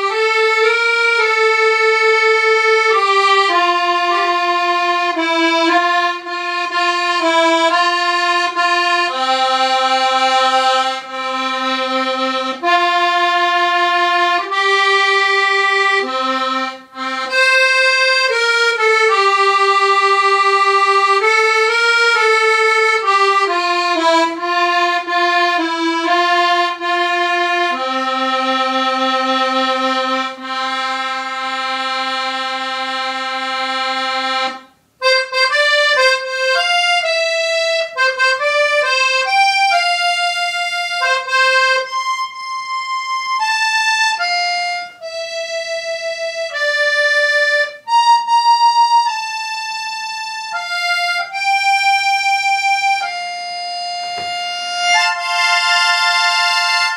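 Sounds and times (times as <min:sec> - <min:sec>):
piano accordion playing: 0:00.0 - 0:56.9.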